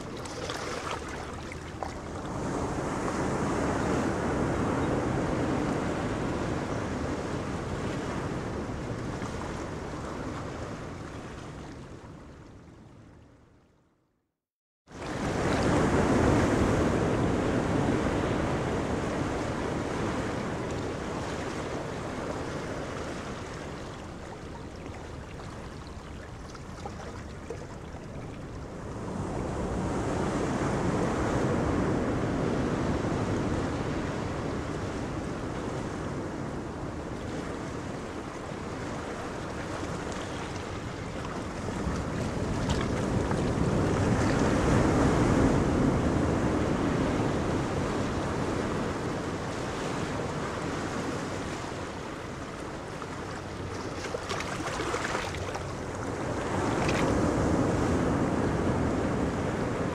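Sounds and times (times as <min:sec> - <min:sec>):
wind on microphone: 0:00.0 - 0:12.3, 0:15.0 - 0:59.9
fishing boats passing: 0:00.0 - 0:13.2, 0:14.9 - 0:59.9
sea wash: 0:00.0 - 0:13.5, 0:14.9 - 0:59.9.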